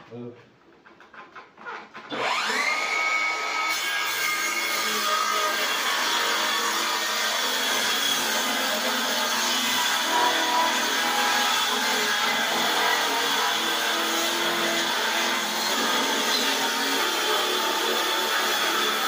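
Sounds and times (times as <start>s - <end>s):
circular saw cutting wood: 1.6s - 19.0s.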